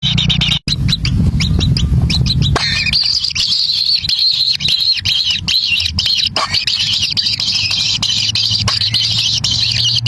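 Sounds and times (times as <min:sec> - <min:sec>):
chicks begging chirps: 0:00.0 - 0:10.0
low hum: 0:00.0 - 0:10.0.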